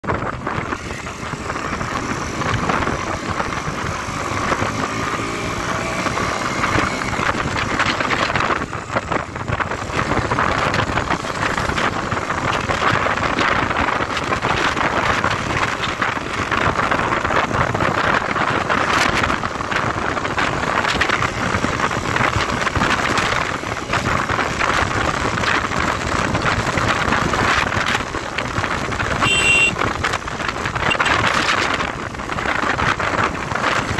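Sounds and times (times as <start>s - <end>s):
motorcycle engine running: 0.0s - 33.9s
wind rushing over microphone: 0.0s - 33.9s.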